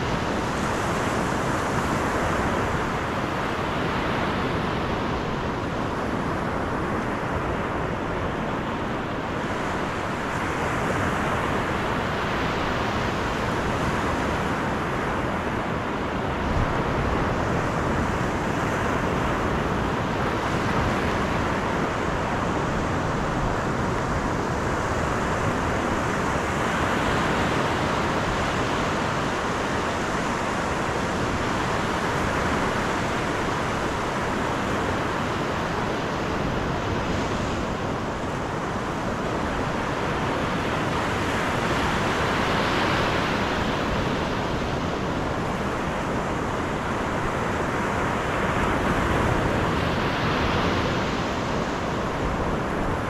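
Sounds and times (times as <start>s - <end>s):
car road and wind noise: 0.0s - 53.0s.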